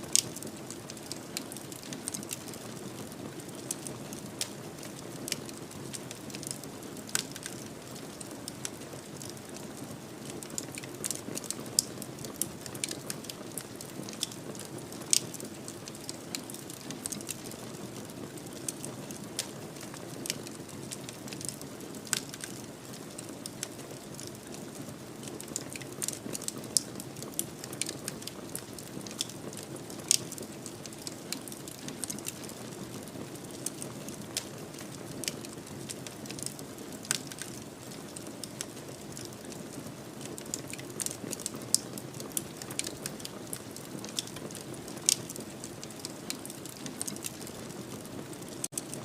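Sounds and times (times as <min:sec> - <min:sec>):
fireplace fire crackling: 0:00.0 - 0:49.0.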